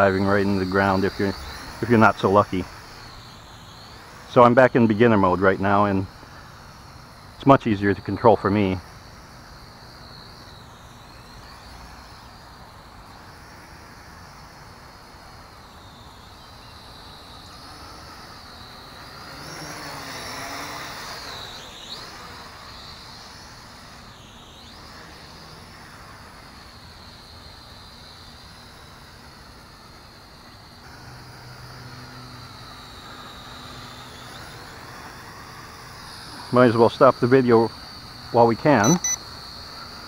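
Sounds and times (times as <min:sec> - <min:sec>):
toy drone motors whining: 0:00.0 - 0:40.0.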